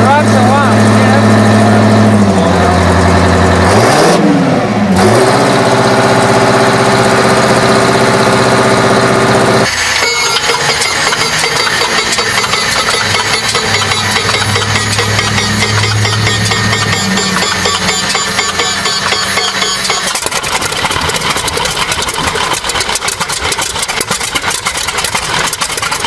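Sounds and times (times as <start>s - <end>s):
loud engine running: 0.0s - 26.0s
rough clattering engine: 0.0s - 26.0s.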